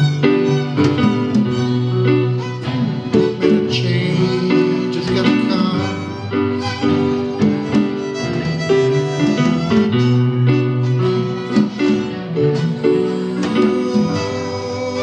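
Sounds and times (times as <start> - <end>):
acoustic guitar: 0.0 - 15.0
sustained melody notes: 0.0 - 15.0.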